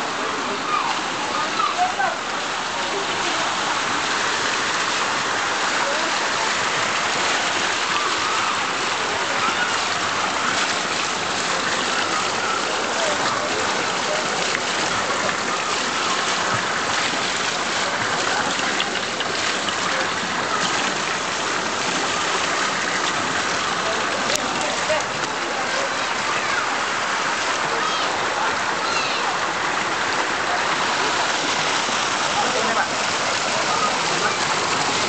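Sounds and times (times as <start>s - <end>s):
water pouring from stone spouts: 0.0s - 35.0s
water splashing into pool: 0.0s - 35.0s.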